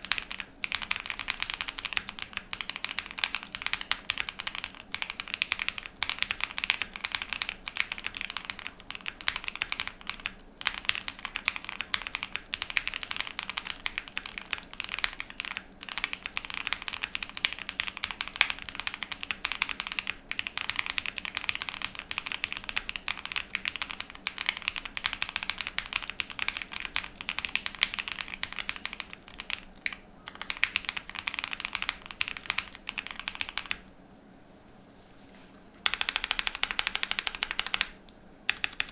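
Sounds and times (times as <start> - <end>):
mechanical keyboard typing: 0.0 - 33.8, 35.8 - 38.9.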